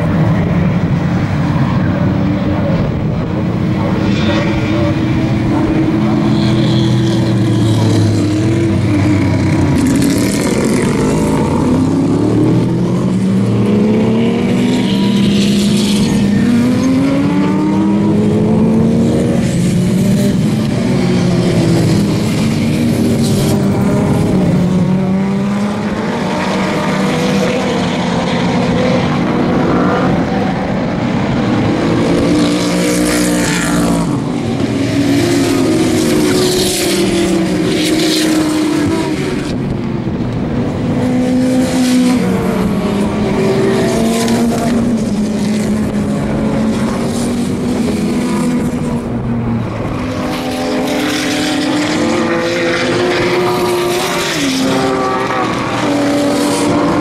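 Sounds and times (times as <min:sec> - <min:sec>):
race cars passing under power: 0:00.0 - 0:57.0.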